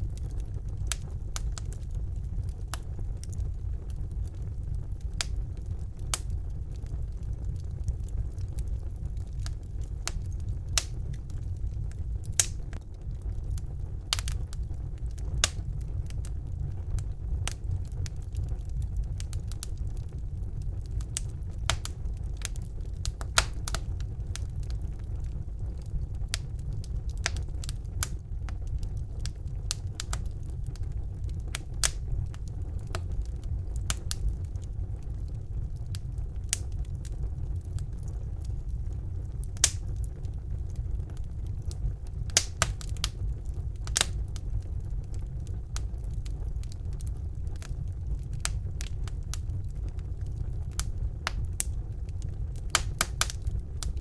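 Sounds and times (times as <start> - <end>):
fire rumbling: 0.0 - 54.0
logs crackling and popping: 0.0 - 54.0.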